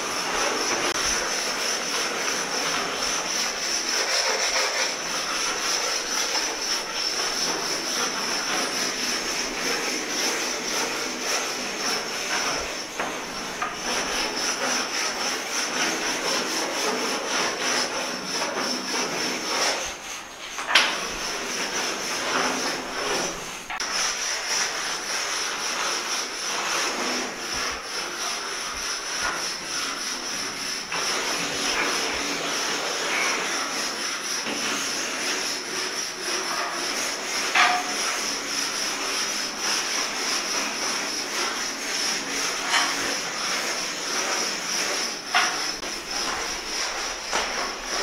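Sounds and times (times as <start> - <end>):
rubbing across a surface: 0.0 - 48.0.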